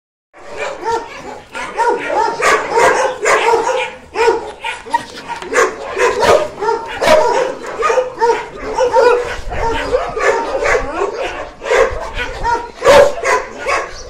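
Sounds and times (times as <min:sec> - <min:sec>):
dogs barking and yipping: 0:00.4 - 0:14.0.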